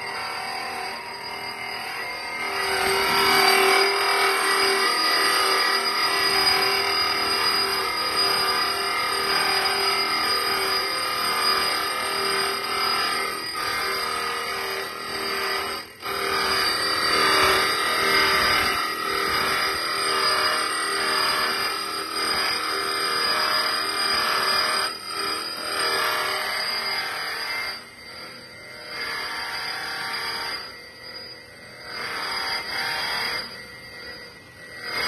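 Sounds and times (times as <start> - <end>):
grinding machine motor whine: 0.0 - 35.0.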